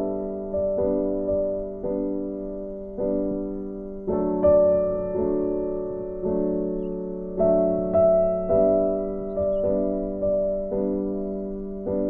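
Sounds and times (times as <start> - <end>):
slow soft piano tune: 0.0 - 12.0.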